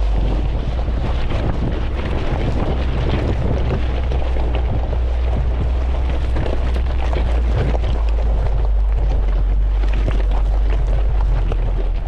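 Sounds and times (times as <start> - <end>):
stones crunching under tyres: 0.0 - 12.0
vehicle engine deep rumble: 0.0 - 12.0.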